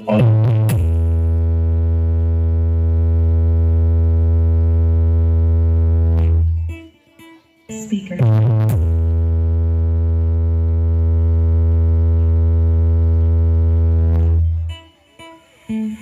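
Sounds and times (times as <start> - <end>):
deep synth bass note: 0.0 - 6.9, 8.2 - 14.9.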